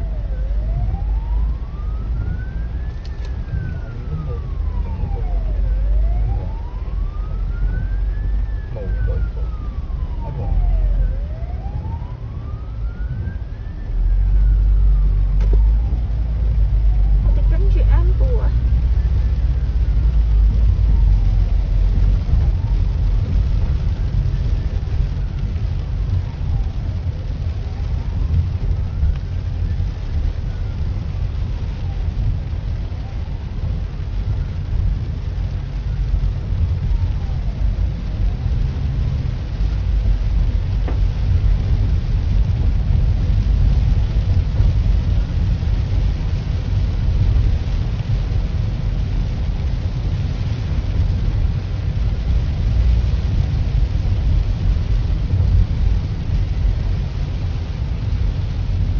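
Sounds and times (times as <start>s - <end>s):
faint ambulance siren wailing: 0.0s - 58.9s
heavy rain on windscreen: 0.0s - 58.9s.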